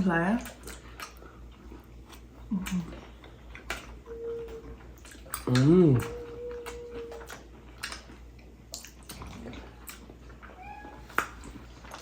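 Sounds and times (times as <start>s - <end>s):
chewing: 0.4s - 12.0s.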